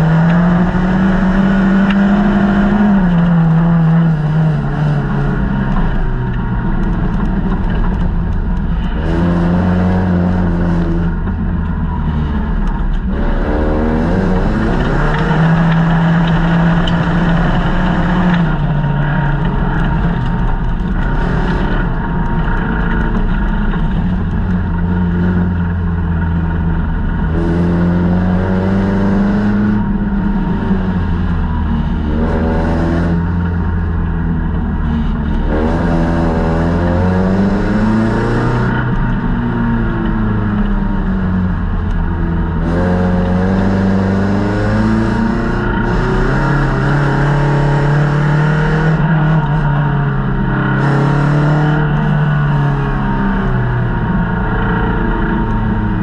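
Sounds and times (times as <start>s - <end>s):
car engine revving hard: 0.0s - 6.0s, 8.8s - 23.2s, 27.2s - 31.2s, 31.8s - 33.9s, 34.8s - 39.9s, 42.5s - 56.0s.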